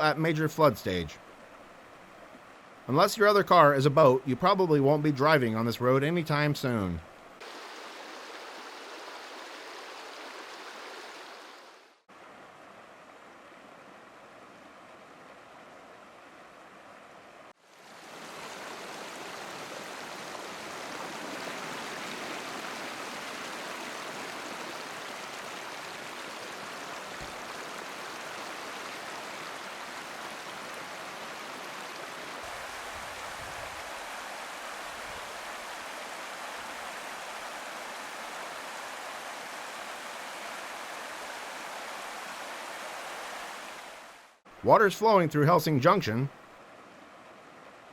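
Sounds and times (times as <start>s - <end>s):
floodwater rushing: 2.8s - 12.4s, 17.6s - 47.9s.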